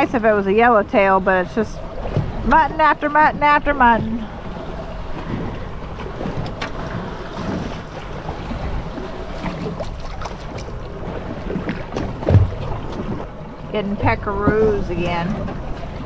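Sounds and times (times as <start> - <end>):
water slapping against boat hull: 0.0 - 16.0
wind buffeting microphone: 0.0 - 16.0.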